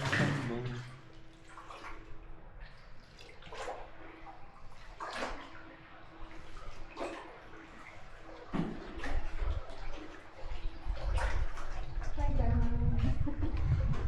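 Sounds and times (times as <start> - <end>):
oars splashing in water: 0.0 - 12.3
water lapping: 0.0 - 14.0.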